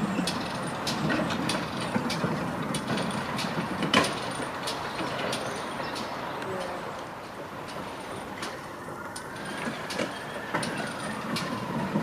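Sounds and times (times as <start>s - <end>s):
vehicle background noise: 0.0s - 12.0s.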